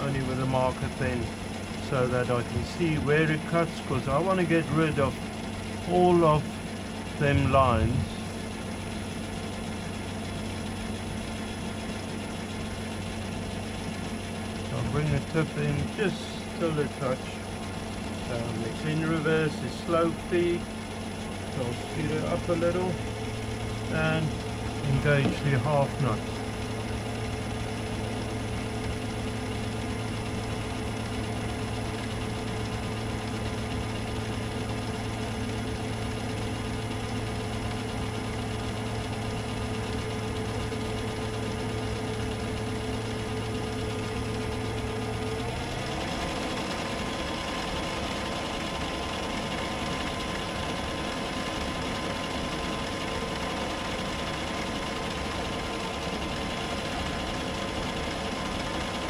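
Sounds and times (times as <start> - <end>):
lathe mechanical hum: 0.0 - 59.0.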